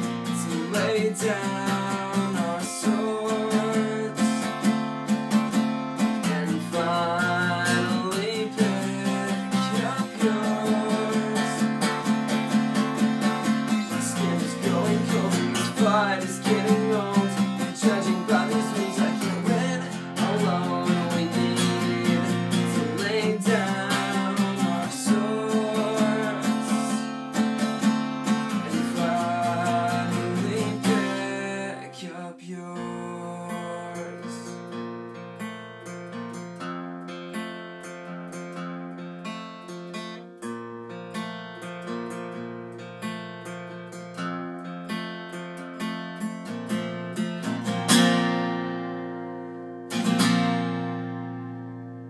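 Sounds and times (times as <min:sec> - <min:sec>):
acoustic guitar strummed and picked: 0:00.0 - 0:52.0.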